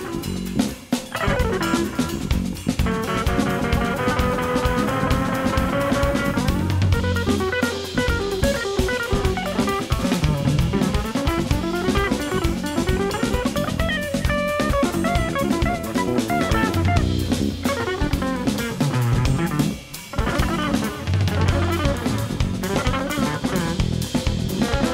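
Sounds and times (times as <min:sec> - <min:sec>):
bass guitar: 0:00.0 - 0:24.9
drum kit playing: 0:00.0 - 0:24.9
electric guitar melody: 0:00.0 - 0:24.9.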